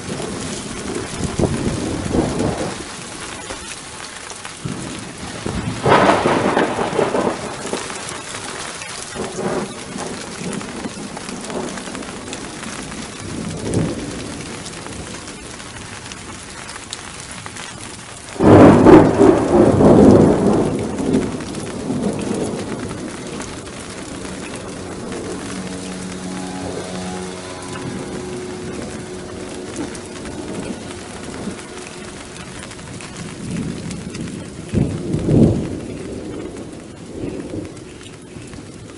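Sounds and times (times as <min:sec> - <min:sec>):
loud thunderclap: 0:00.0 - 0:15.5, 0:17.4 - 0:38.9
steady rain: 0:00.0 - 0:38.9
thunder rumbling: 0:00.0 - 0:38.9.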